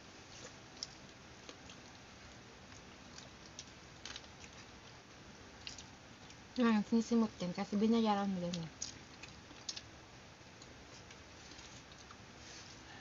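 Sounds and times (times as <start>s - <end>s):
soft chewing: 0.0s - 6.6s, 7.6s - 13.0s.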